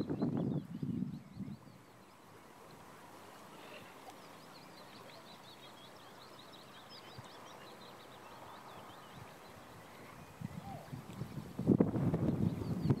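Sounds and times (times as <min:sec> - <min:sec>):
songbird twittering: 0:00.0 - 0:02.4, 0:03.6 - 0:11.6
flowing river water: 0:00.0 - 0:13.0.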